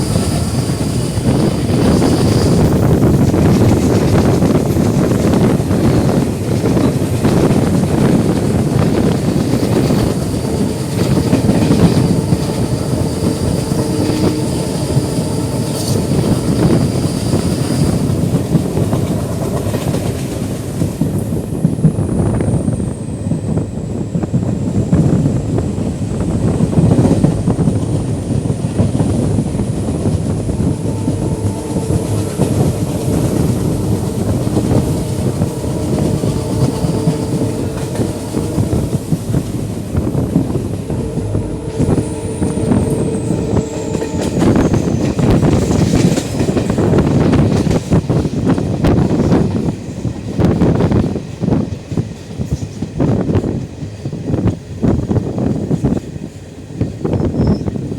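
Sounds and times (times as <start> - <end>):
train rumble: 0.0 - 57.9.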